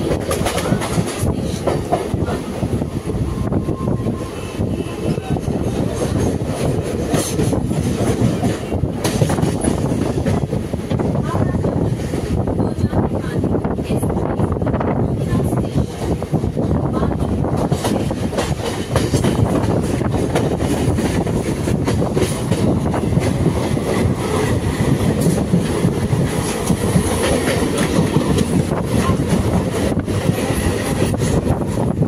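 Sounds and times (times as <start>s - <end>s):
train passing on next track: 0.0s - 32.0s
train wheel-on-rail rumble: 0.0s - 32.0s.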